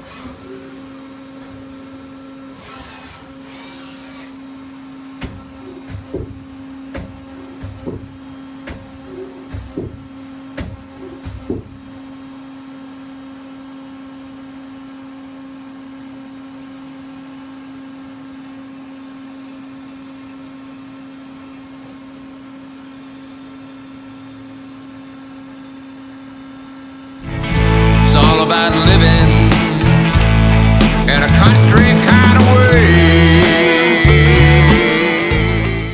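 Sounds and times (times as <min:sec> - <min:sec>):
lathe machine hum: 0:00.0 - 0:35.9.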